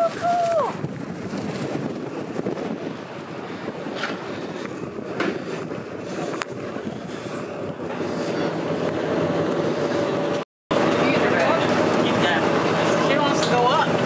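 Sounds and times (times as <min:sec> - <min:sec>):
ferry engines rumbling: 0:00.0 - 0:14.0.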